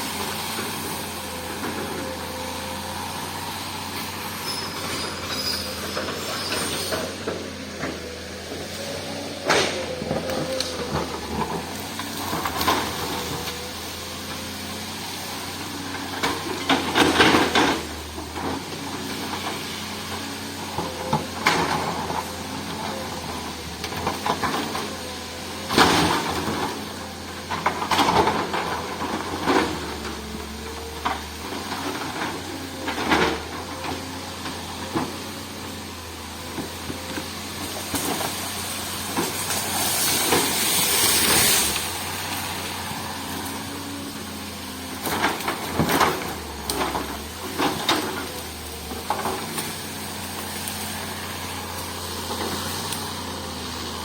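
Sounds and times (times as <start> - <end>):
diesel engine running: 0.0 - 54.0
soil and stones sliding: 0.0 - 54.0.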